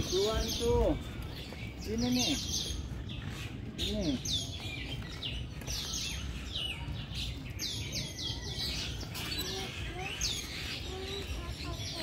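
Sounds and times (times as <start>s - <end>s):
chorus of birds chirping: 0.0s - 12.0s.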